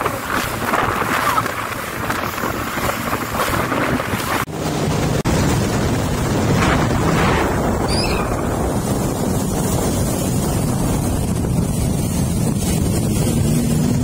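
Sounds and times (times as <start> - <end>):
jet ski engine drone: 0.0 - 14.0
water rushing and spraying: 0.0 - 14.0
wind buffeting microphone: 0.0 - 14.0.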